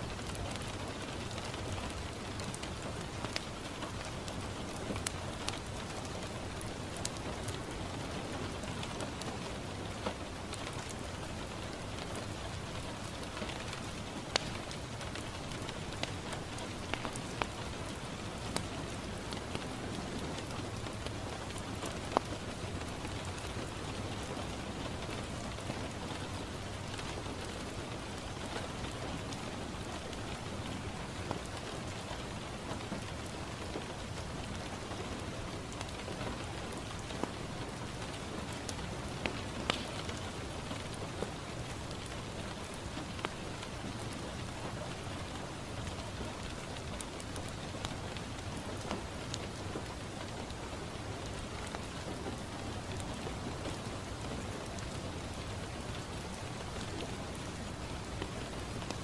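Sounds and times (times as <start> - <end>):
rain on a window: 0.0 - 59.0
wood fire crackling: 0.0 - 59.0.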